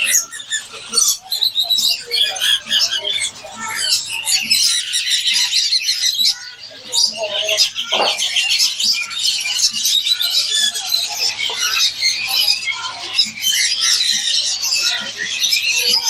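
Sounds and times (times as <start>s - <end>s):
small birds chirping and twittering: 0.0s - 16.0s.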